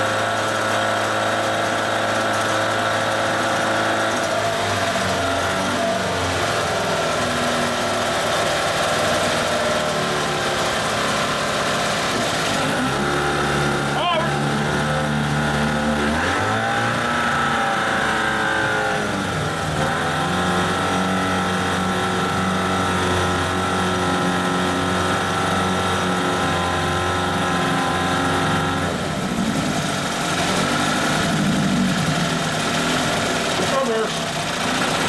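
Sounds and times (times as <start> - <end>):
outboard engine running: 0.0 - 35.0.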